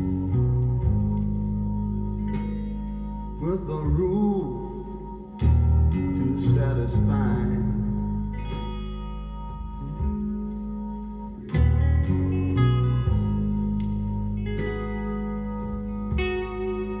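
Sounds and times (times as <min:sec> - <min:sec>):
deep bass notes: 0:00.0 - 0:17.0
guitar: 0:00.0 - 0:17.0.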